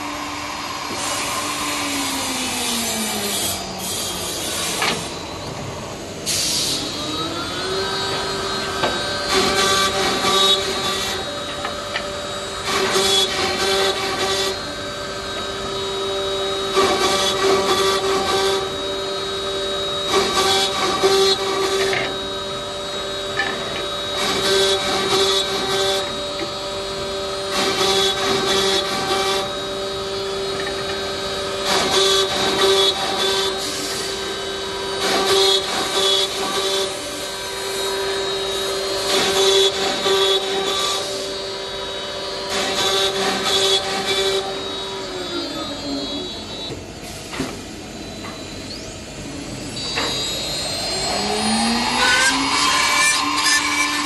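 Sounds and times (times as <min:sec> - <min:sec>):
machine spindle whine: 0:00.0 - 0:54.0.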